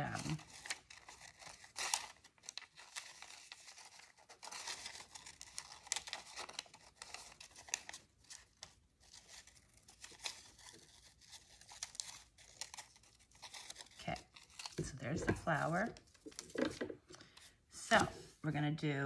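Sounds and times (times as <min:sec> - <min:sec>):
paper rustling: 0:00.0 - 0:18.4.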